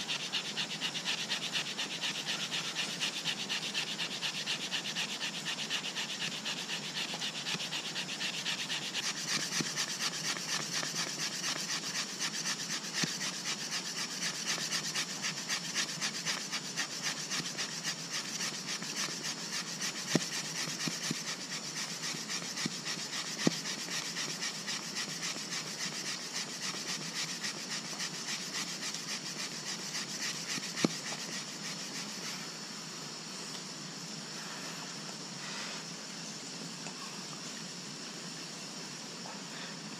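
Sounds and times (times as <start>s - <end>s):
rhythmic wooden scraping: 0.0s - 32.4s.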